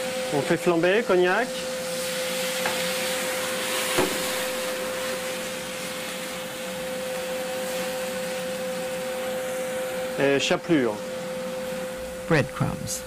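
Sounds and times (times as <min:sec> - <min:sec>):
sizzling and flame hiss in pan: 0:00.0 - 0:13.0
steady hum: 0:00.0 - 0:13.0.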